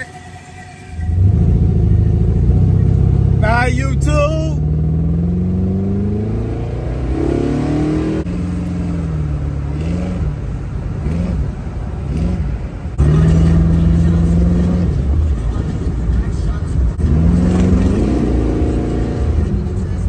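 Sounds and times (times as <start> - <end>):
car engine accelerating: 0.9 - 20.0.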